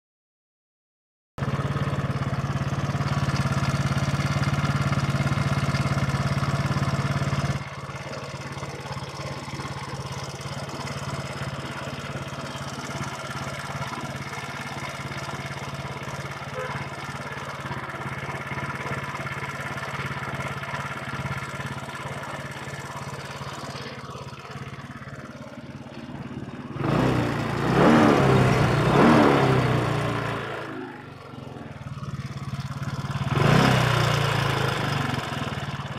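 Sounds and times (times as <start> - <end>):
scooter engine running and revving: 1.4 - 35.9.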